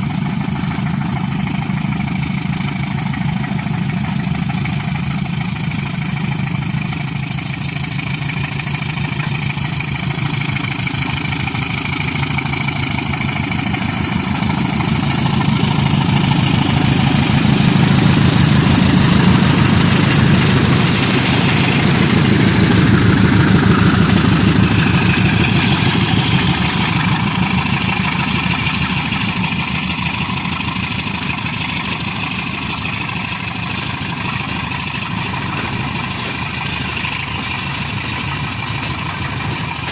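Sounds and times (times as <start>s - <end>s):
diesel locomotives passing: 0.0s - 39.9s.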